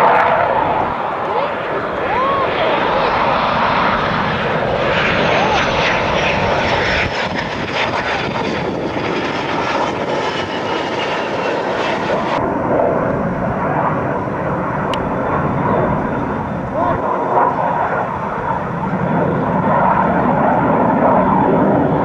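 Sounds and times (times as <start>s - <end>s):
aircraft engine drone: 0.0s - 22.0s
jet engines roaring with whine: 0.0s - 22.0s.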